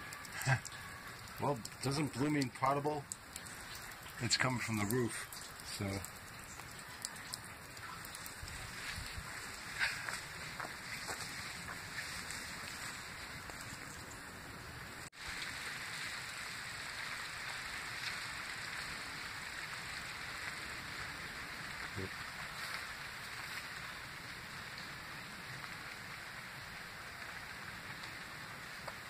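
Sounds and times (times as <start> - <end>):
outdoor background hiss: 0.0 - 29.0.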